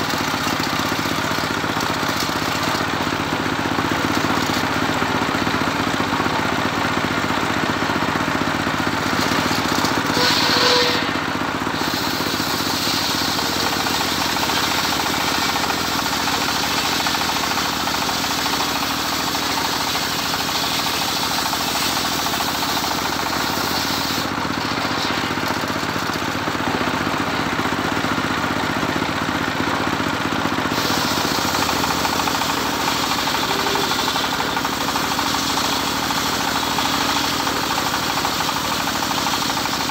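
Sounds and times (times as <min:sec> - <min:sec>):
circular saw cutting log: 0:00.0 - 0:29.1, 0:30.4 - 0:39.9
engine drone: 0:00.0 - 0:39.9.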